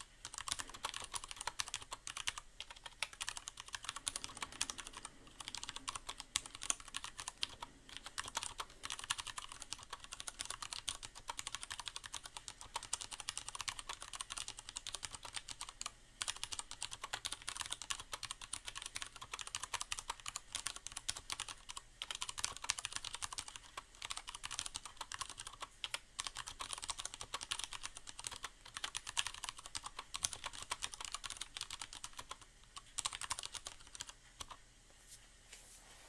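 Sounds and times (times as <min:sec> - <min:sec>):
mechanical keyboard typing: 0:00.0 - 0:34.6.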